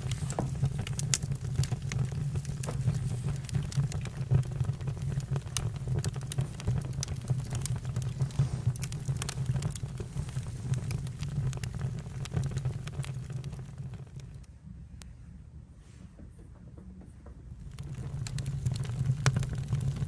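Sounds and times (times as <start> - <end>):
campfire crackling: 0.0 - 14.5, 17.6 - 20.0.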